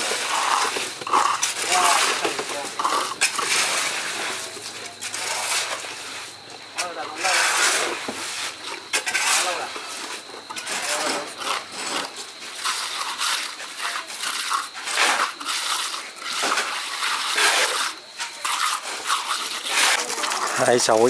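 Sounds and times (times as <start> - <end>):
gritty scraping and crunching: 0.0 - 21.0.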